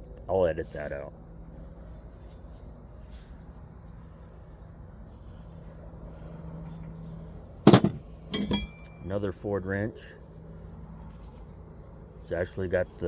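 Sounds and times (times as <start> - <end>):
crickets chirping: 0.0 - 13.0
steady low hum: 0.0 - 13.0.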